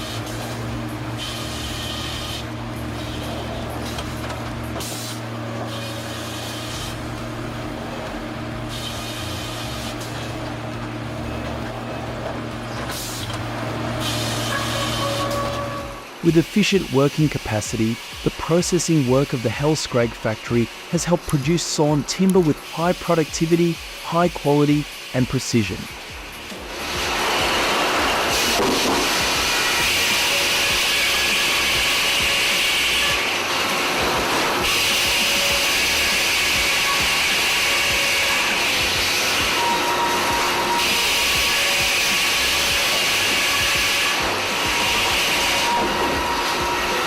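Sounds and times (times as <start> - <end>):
saw cutting through timber: 0.0 - 47.0
sawmill machinery droning: 0.0 - 47.0.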